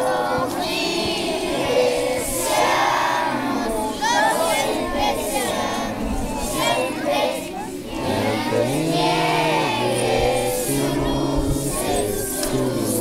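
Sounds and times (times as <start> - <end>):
children shouting: 0.0 - 13.0.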